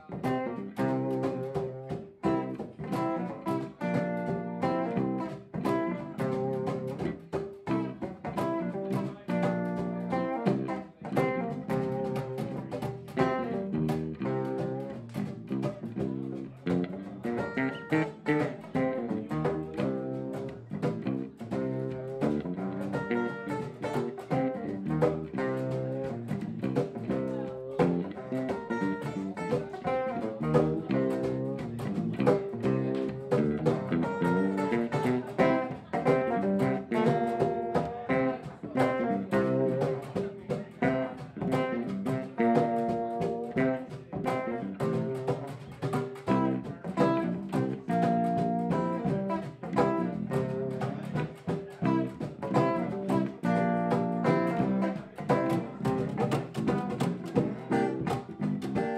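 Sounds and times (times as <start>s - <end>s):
electric bass plucked: 0.0s - 58.9s
electric guitar: 0.0s - 58.9s.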